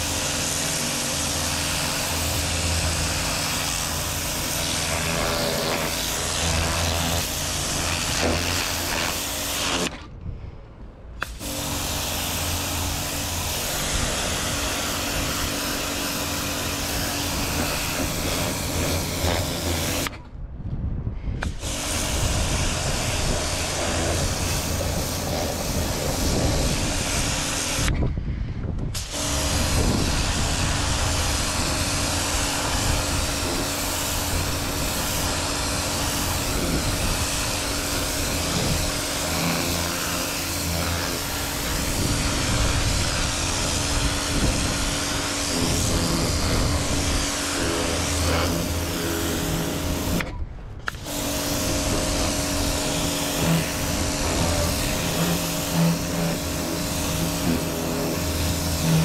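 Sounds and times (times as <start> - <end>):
pump humming: 0.0 - 9.8, 11.2 - 20.1, 29.1 - 59.0
water spray hissing: 0.0 - 9.9, 11.2 - 20.1, 21.4 - 27.9, 29.0 - 59.0.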